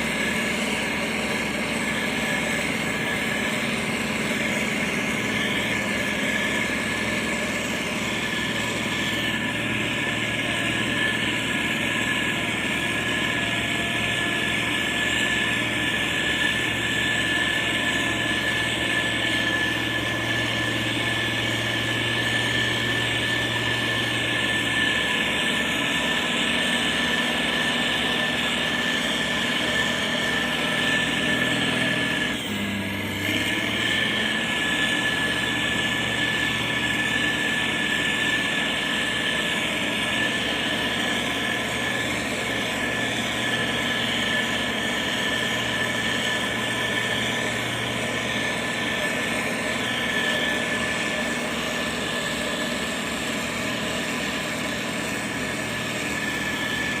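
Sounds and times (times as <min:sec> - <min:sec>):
constant high whine: 0:00.0 - 0:57.0
diesel engine running: 0:00.0 - 0:57.0.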